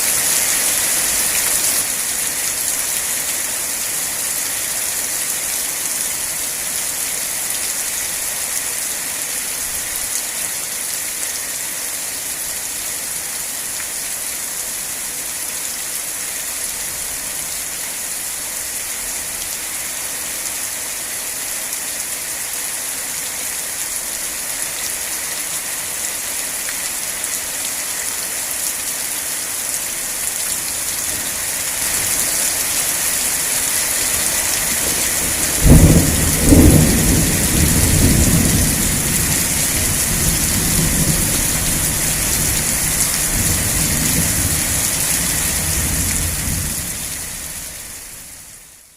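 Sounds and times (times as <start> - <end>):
rain pattering on surfaces: 0.0 - 48.9.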